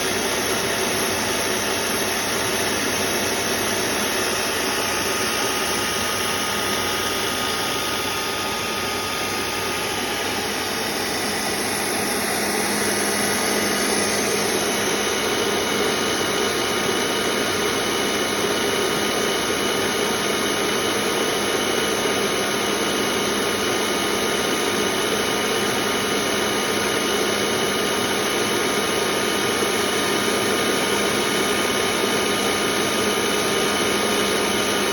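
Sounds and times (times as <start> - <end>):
grinder motor whine: 0.0 - 34.9.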